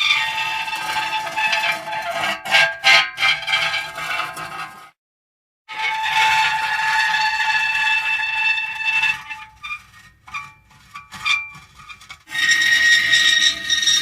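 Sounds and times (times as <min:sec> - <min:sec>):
metal squealing: 0:00.0 - 0:04.8, 0:05.7 - 0:14.0.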